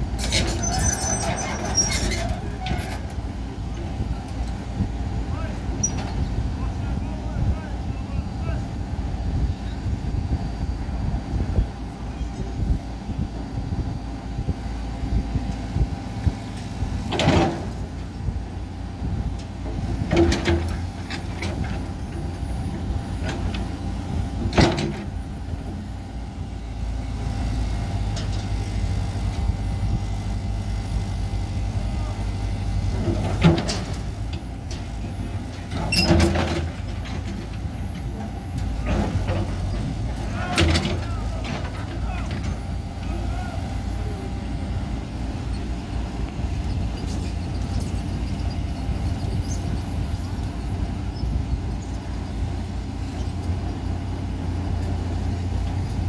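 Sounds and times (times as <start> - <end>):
excavator diesel engines running: 0.0 - 56.0.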